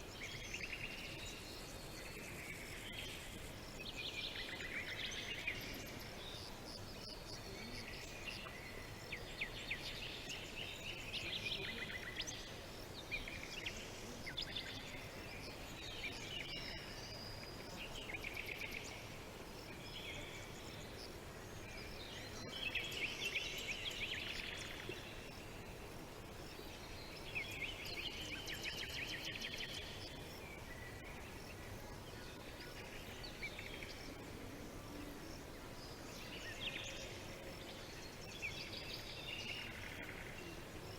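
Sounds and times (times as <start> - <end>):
songbirds chirping and trilling: 0.0 - 40.9
steady background hiss: 0.0 - 40.9.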